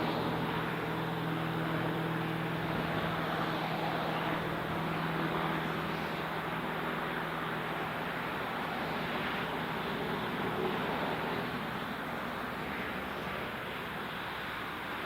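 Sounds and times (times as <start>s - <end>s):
piston aircraft engine droning: 0.0s - 15.0s.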